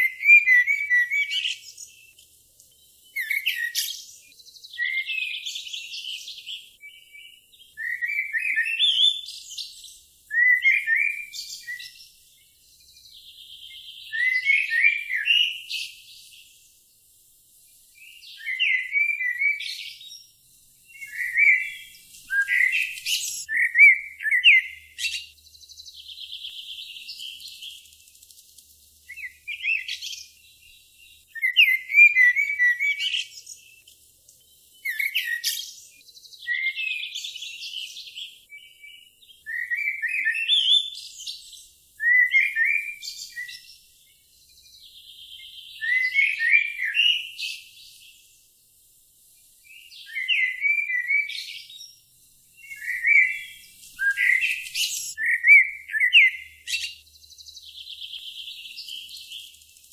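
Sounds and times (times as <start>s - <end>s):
songbirds chirping: 0.0s - 59.9s
thin buzzing bird trill: 0.0s - 59.9s.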